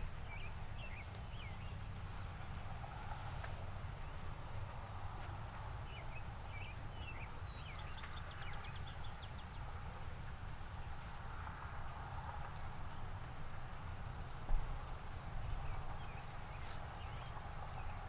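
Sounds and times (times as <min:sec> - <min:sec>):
songbird singing: 0:00.0 - 0:02.0, 0:03.8 - 0:11.6, 0:12.2 - 0:18.0.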